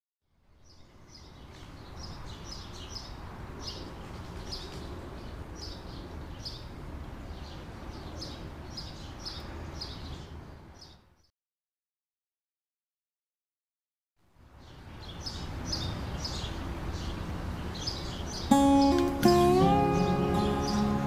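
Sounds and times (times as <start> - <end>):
bird chirping: 0.5 - 11.3, 14.6 - 21.0.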